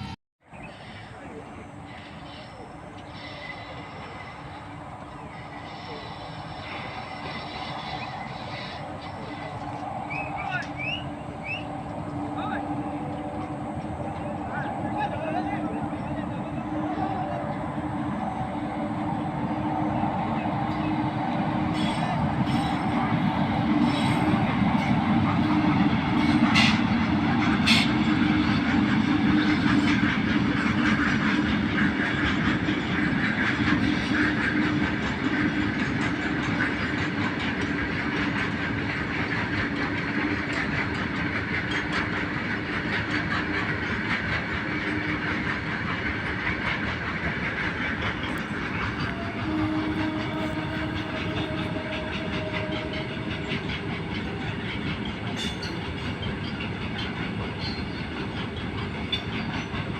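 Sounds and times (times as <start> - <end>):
train low drone: 0.0 - 59.9
train wheels clacking: 1.9 - 59.9.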